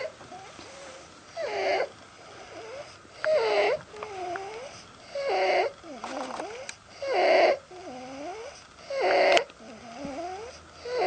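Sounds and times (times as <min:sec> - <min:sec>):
harsh rasping breathing: 0:00.0 - 0:11.0.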